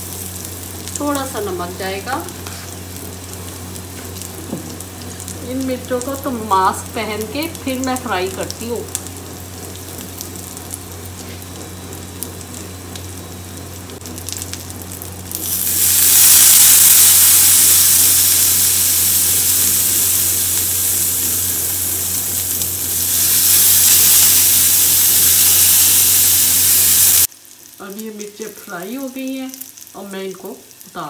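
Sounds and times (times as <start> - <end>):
chillies sizzling in oil: 0.0 - 31.0
loud hissing sizzle: 0.0 - 31.0.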